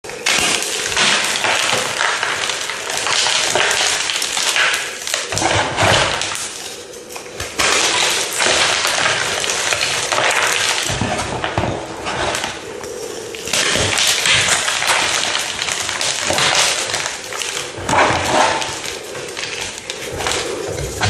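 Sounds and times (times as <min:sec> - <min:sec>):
brittle material crunching and crackling: 0:00.0 - 0:21.0.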